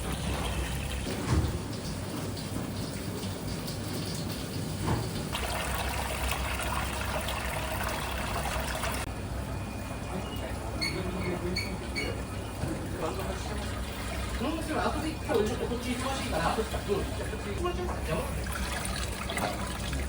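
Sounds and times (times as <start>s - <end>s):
running water: 0.0s - 9.1s, 10.3s - 20.0s.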